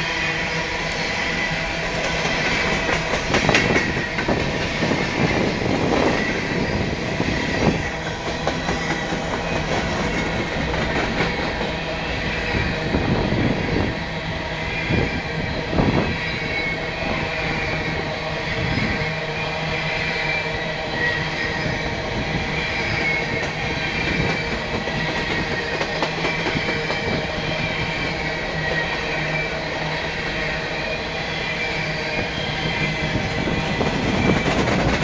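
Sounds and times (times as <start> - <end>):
freight train wheels rattling on rail: 0.0 - 35.0.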